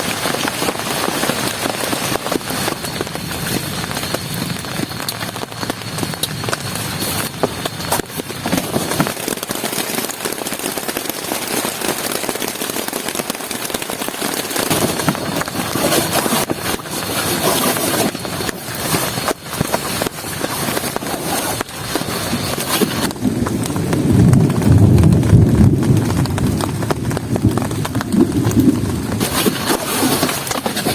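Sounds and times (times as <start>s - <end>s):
heavy rain pattering: 0.0s - 30.9s.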